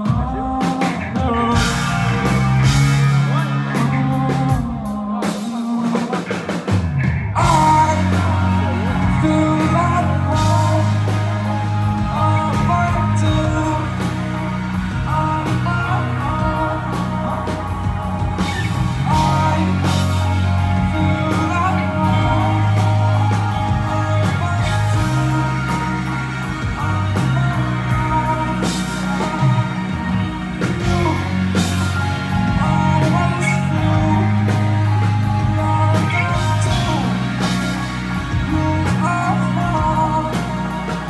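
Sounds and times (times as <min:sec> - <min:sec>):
heavy bass line: 0:00.0 - 0:41.0
live rock band over loudspeakers: 0:00.0 - 0:41.0
person singing: 0:00.0 - 0:41.0.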